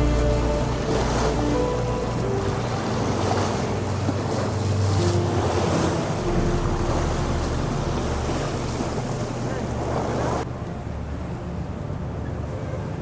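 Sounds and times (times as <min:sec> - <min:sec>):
low hum: 0:00.0 - 0:11.2
water rushing: 0:00.0 - 0:13.0.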